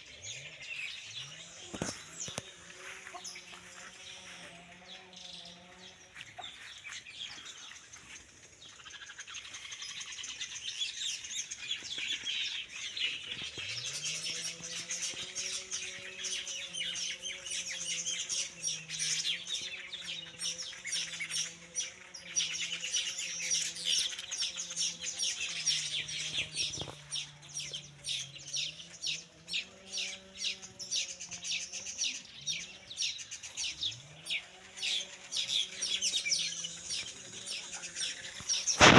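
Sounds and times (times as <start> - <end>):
weaver birds chattering: 0.0 - 38.9.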